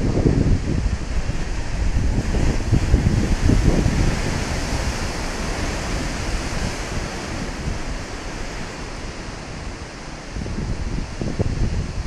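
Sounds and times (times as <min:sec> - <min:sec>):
surf breaking on rocks: 0:00.0 - 0:11.6
wind buffeting microphone: 0:00.0 - 0:12.0.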